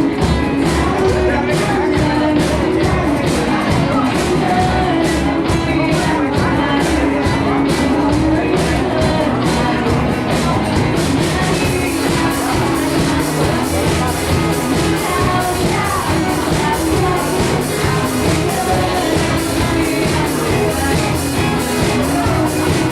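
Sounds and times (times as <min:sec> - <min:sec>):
rock band playing live: 0:00.0 - 0:22.9.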